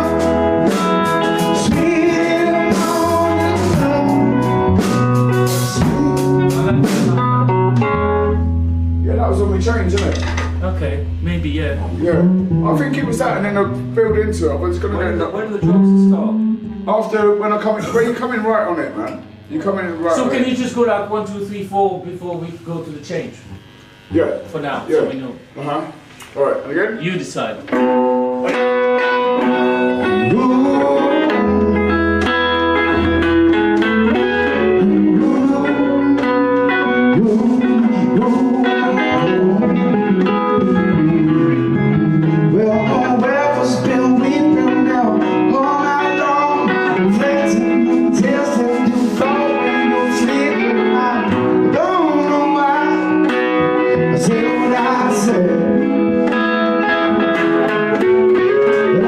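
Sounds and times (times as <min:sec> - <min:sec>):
bluesy rock band playing: 0:00.0 - 0:24.1, 0:27.6 - 0:59.0
electric guitars: 0:00.0 - 0:59.0.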